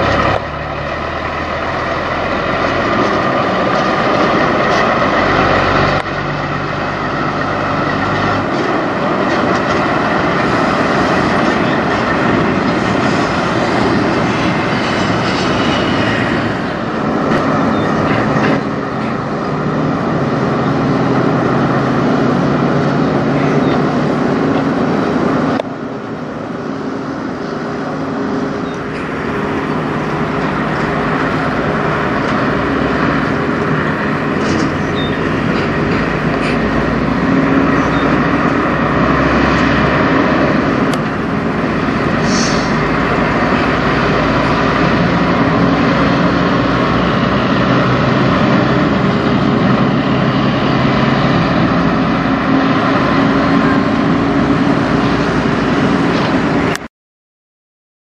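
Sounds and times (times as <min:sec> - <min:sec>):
truck diesel engine driving past: 0:00.0 - 0:56.8.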